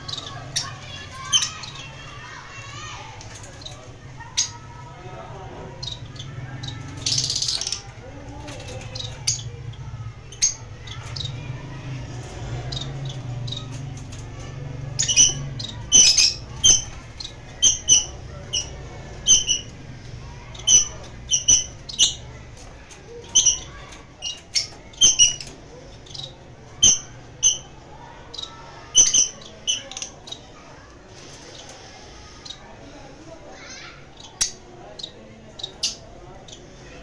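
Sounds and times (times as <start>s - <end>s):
birds giving high chirps: 0.0s - 37.0s.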